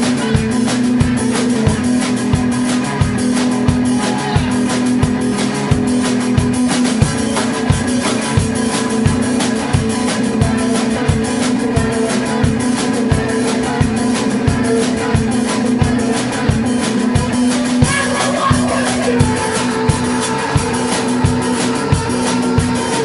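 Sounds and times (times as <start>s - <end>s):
electric guitar droning notes: 0.0s - 23.0s
steady kick drum beat: 0.0s - 23.0s.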